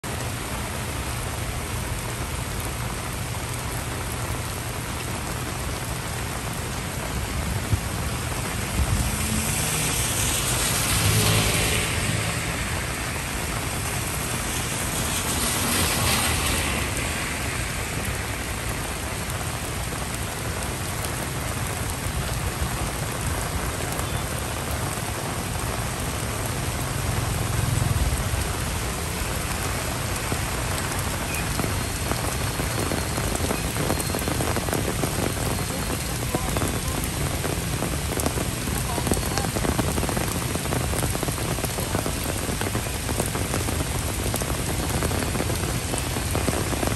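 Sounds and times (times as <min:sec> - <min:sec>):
heavy rain on paving and foliage: 0:00.0 - 0:46.9.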